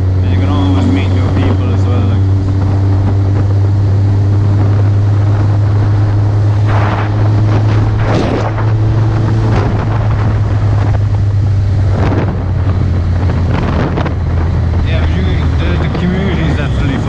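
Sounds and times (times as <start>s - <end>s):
motorcycle engine humming: 0.0s - 17.0s
wind noise on microphone: 0.0s - 17.0s.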